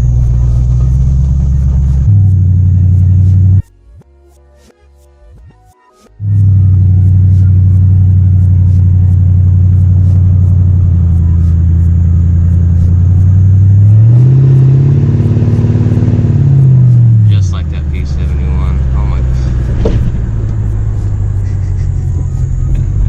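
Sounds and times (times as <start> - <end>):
car engine idling and revving: 0.0 - 3.7, 6.2 - 23.0.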